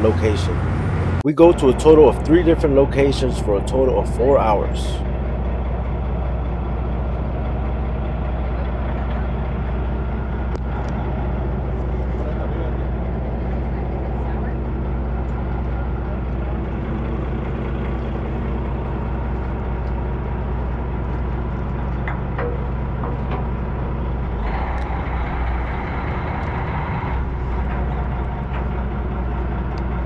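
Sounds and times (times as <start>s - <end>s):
boat engine drone: 0.0s - 30.0s.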